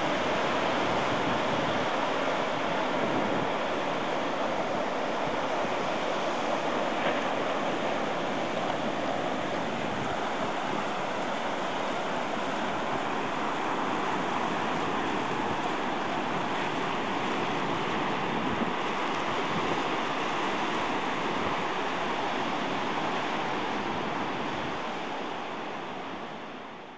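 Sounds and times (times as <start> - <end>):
ocean waves washing on beach: 0.0 - 26.9.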